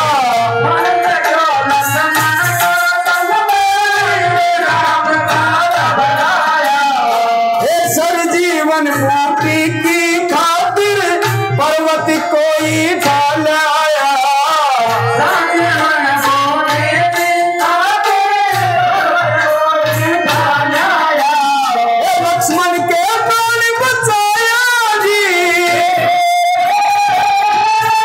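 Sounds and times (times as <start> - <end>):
dholak drum beating: 0.0 - 28.0
harmonium melody: 0.0 - 28.0
person singing: 0.0 - 28.0.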